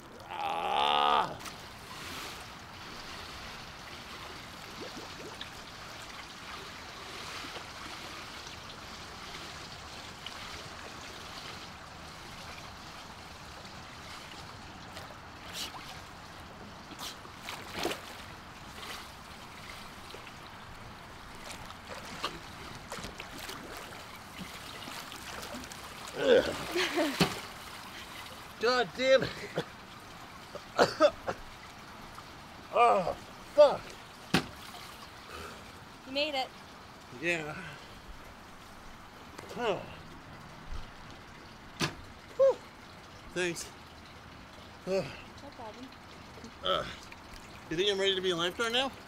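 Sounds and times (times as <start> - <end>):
pool water sloshing: 0.0 - 49.0
water splashes: 0.0 - 49.0.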